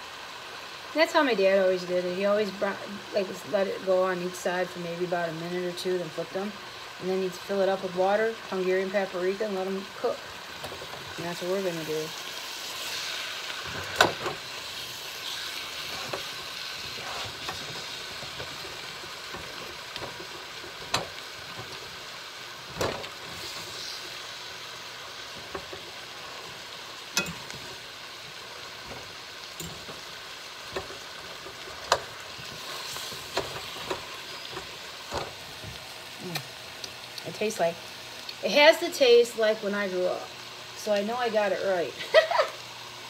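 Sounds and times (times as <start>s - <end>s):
chicken sizzling in a skillet: 0.0s - 43.0s.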